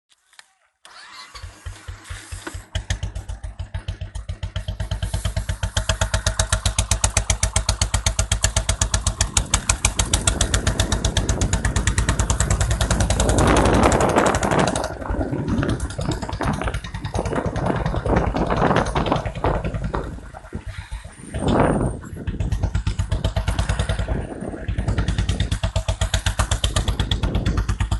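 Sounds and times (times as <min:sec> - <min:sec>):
motorcycle engine idling and revving: 0:00.8 - 0:27.9.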